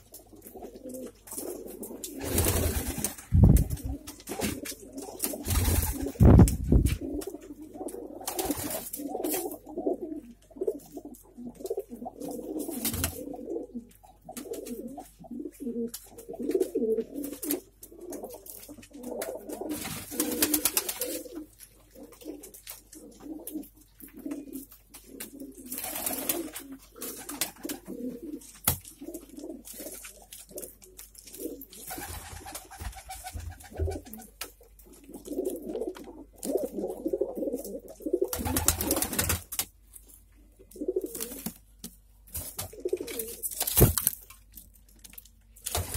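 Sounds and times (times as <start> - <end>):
pigeons cooing: 0.0 - 39.4, 40.3 - 41.6, 42.5 - 43.5.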